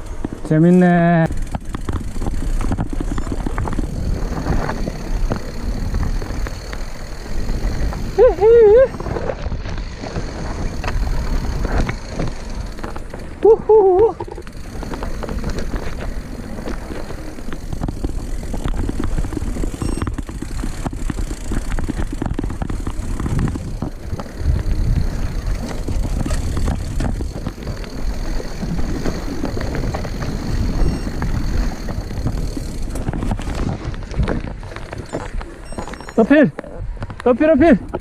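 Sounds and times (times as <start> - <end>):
bike clicks and rattles: 0.0 - 38.0
bike tyres rumbling on trail: 0.0 - 38.0
wind on microphone: 1.2 - 36.2.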